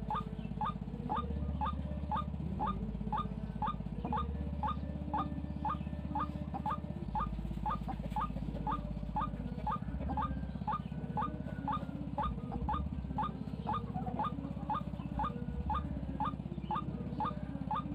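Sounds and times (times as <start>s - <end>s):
low pulsing drone: 0.0s - 17.9s.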